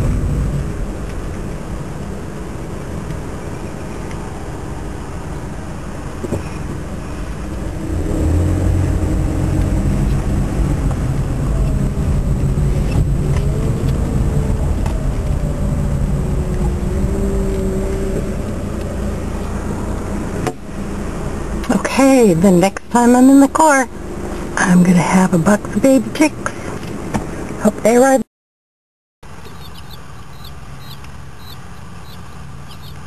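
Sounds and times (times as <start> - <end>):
car engine and road noise: 0.0 - 28.2, 29.2 - 33.0.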